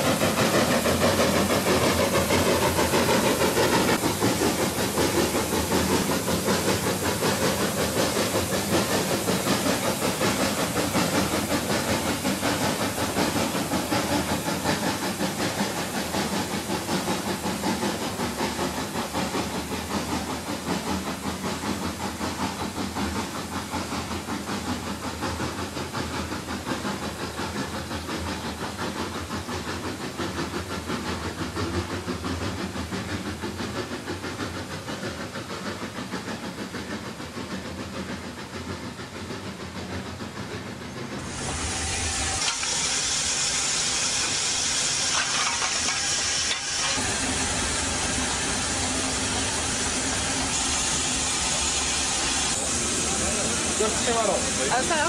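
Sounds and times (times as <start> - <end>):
hiss of escaping steam: 0.0 - 55.0
steam engine chuffing: 0.0 - 55.0.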